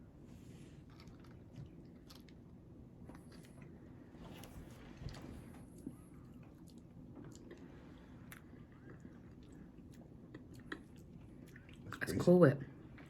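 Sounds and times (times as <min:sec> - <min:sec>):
faint chewing of cake: 0:00.0 - 0:13.0.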